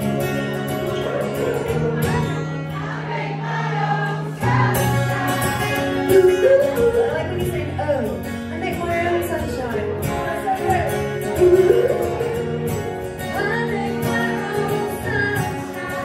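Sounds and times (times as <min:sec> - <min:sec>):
acoustic and electric guitars: 0:00.0 - 0:16.0
woman singing lead: 0:00.0 - 0:16.0.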